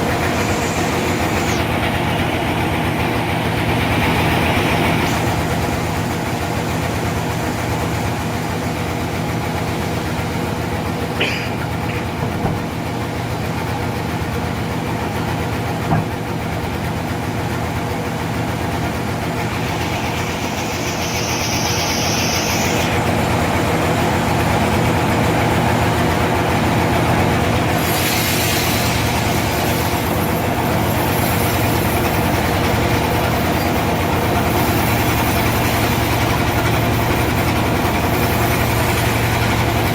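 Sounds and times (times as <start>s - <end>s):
hiss: 0.0s - 13.0s, 17.8s - 39.9s
sawmill engine running: 0.0s - 39.9s.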